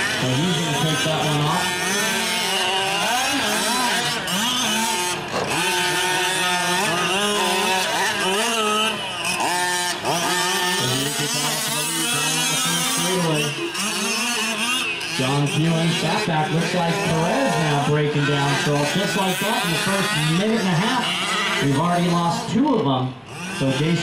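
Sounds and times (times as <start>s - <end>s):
small two-stroke engines racing: 0.0s - 24.0s.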